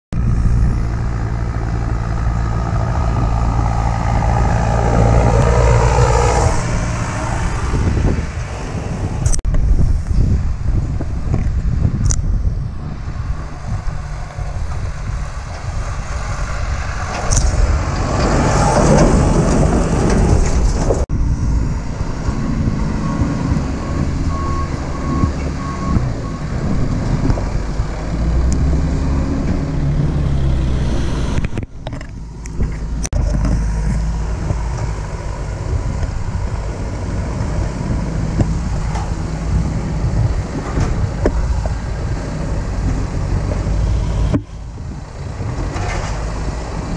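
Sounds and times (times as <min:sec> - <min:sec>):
tractor engines rumbling: 0:00.1 - 0:46.9.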